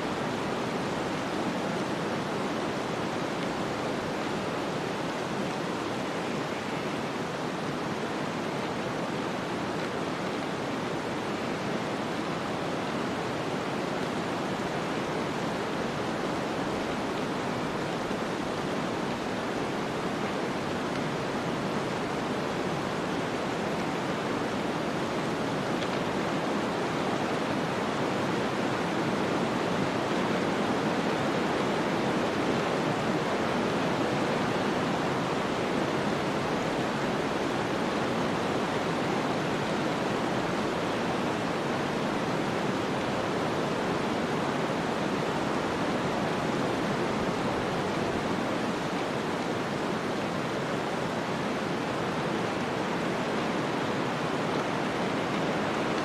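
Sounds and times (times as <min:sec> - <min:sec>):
rushing snowstorm wind: 0:00.0 - 0:56.0.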